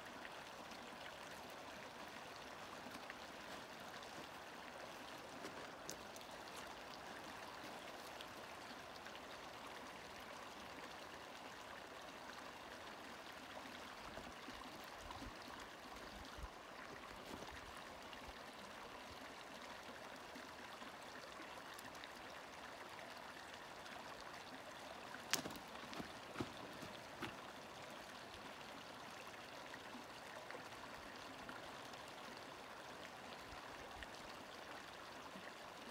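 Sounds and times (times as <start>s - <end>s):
creek running over rocks: 0.0s - 35.9s.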